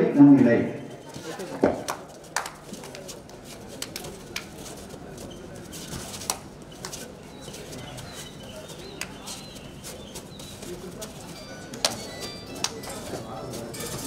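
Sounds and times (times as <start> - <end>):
crowd murmuring outdoors: 0.8 - 14.0.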